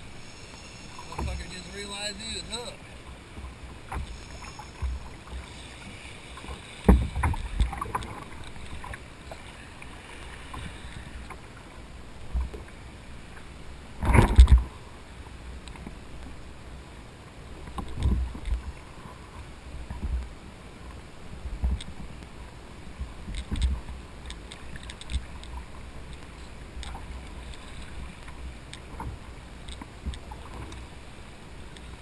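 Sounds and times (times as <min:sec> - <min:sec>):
water: 0:00.0 - 0:32.0.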